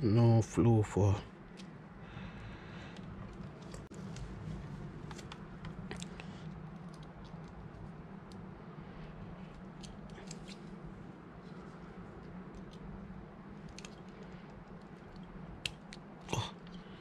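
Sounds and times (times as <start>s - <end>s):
steady low hum: 0.0s - 17.0s
wires rustling: 2.8s - 17.0s.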